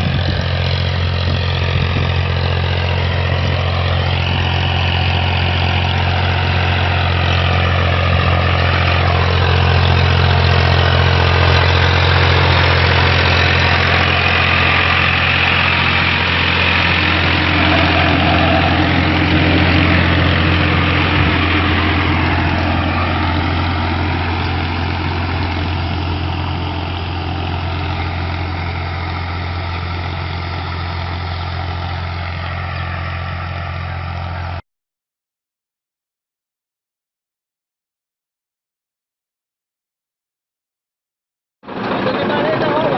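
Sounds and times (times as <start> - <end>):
tractor engine running: 0.0 - 34.6, 41.6 - 42.9.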